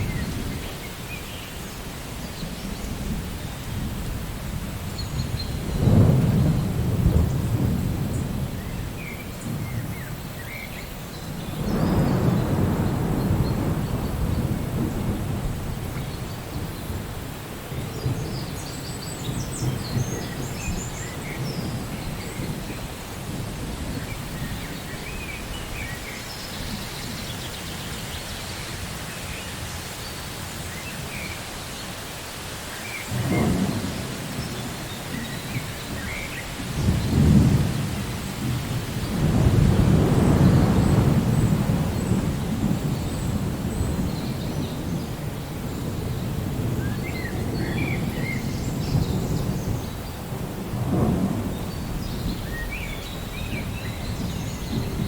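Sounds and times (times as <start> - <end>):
steady rain: 0.0 - 55.0
thunder rumbling: 2.5 - 10.3, 11.2 - 27.8, 33.1 - 55.0.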